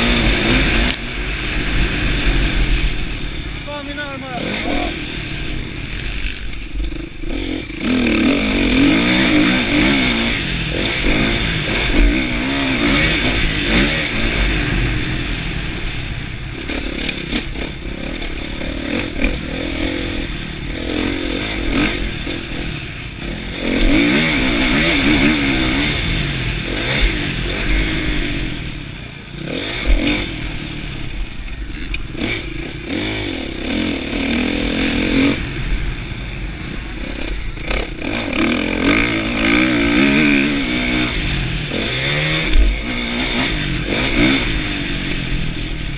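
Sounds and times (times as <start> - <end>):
motocross engine revving: 0.0 - 45.9.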